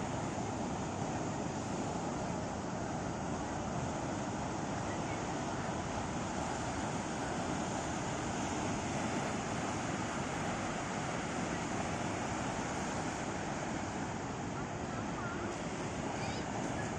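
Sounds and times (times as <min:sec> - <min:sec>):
sea surf breaking on shore: 0:00.0 - 0:16.9.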